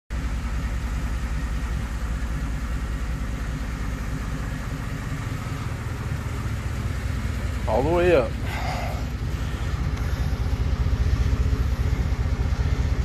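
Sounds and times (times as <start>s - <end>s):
pickup engine idling: 0.1s - 13.0s.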